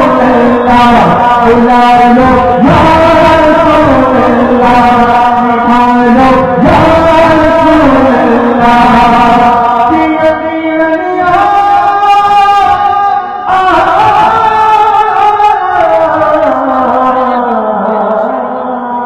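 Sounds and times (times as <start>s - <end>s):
man singing through amplification: 0.0s - 19.0s.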